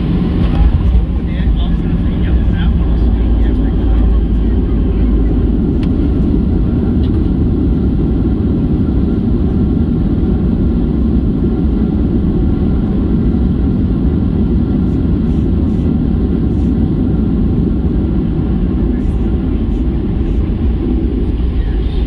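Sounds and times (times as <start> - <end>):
airplane cabin rumble while taxiing: 0.0 - 22.0.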